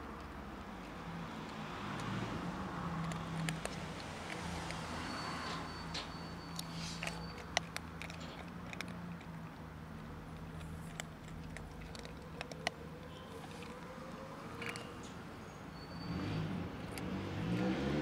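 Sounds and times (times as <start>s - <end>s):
kittens crunching dry kibble: 0.0s - 15.3s.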